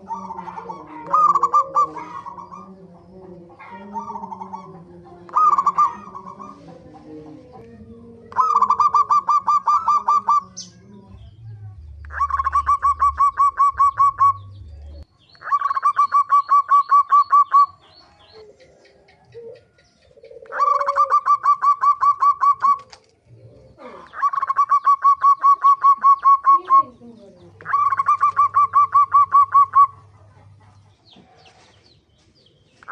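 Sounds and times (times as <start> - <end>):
dove calling: 0.0 - 32.9.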